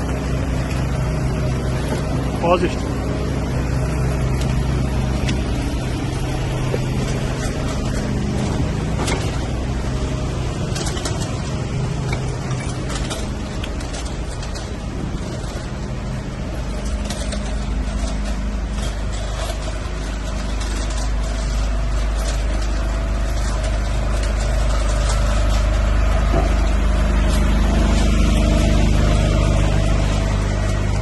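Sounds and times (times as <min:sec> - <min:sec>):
heavy vehicle engine rumbling: 0:00.0 - 0:31.0
short clatters: 0:03.9 - 0:31.0.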